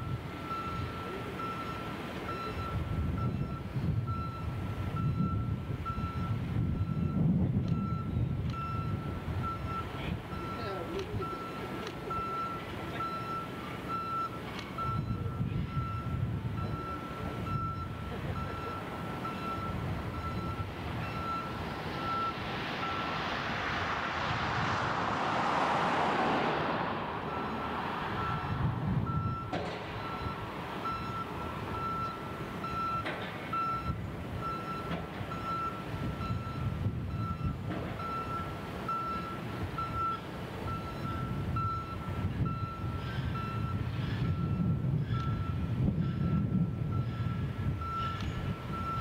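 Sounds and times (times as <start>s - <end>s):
reversing alarm beeping: 0.0s - 23.3s, 27.3s - 49.0s
diesel engine rumble: 0.0s - 49.0s.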